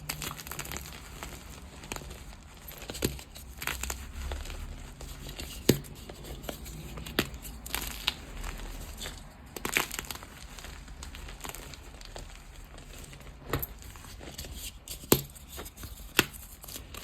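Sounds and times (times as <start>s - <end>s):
chalk crunching and crackling: 0.0s - 17.0s.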